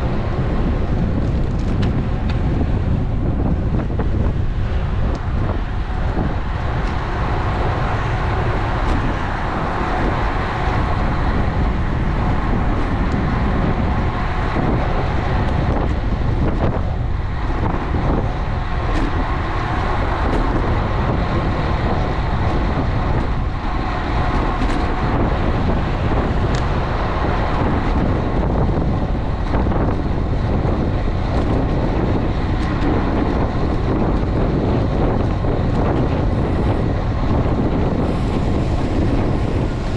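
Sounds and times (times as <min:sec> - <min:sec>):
road noise: 0:00.0 - 0:39.9
wind rushing over microphone: 0:00.0 - 0:39.9.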